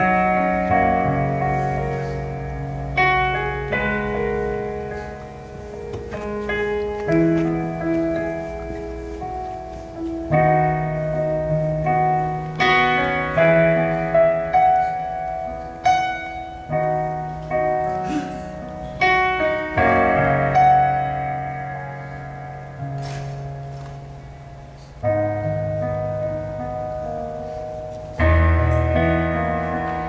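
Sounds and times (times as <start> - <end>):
slow piano chords: 0.0 - 30.0.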